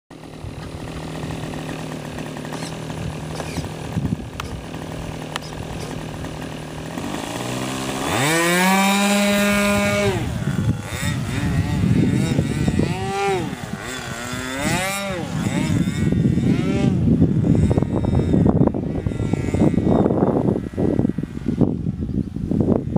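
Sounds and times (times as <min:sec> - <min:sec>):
model airplane engine idling: 0:00.1 - 0:22.9.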